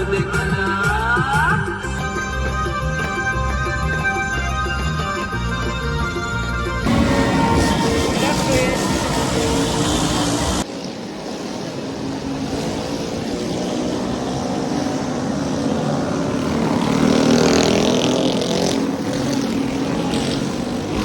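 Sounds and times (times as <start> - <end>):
traffic engines running: 0.0 - 21.0.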